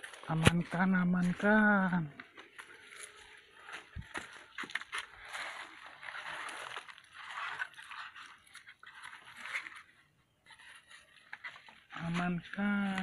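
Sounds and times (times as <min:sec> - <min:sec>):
stiff leaves rustling and crunching: 0:00.0 - 0:13.0.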